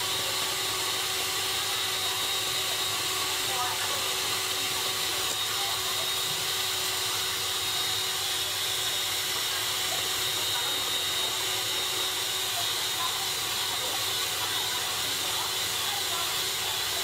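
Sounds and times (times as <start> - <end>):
stand mixer motor whirring: 0.0 - 17.0.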